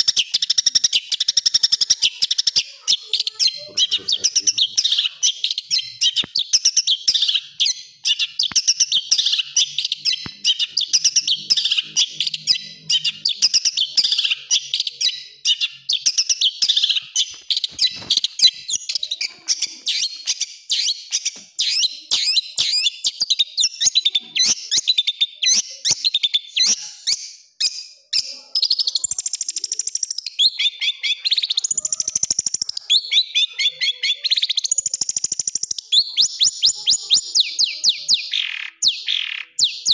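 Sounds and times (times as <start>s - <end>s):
bird harsh chattering song: 0.0s - 39.9s.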